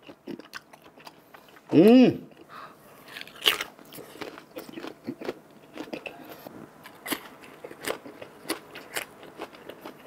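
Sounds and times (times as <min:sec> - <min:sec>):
chewing crunchy pork skin: 0:00.0 - 0:01.7, 0:02.3 - 0:10.0.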